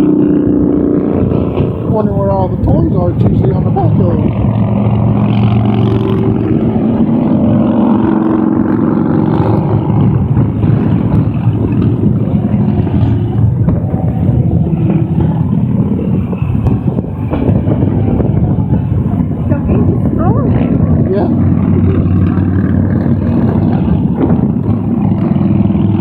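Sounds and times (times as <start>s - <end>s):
motorcycles riding past: 0.0s - 26.0s
road noise: 0.0s - 26.0s.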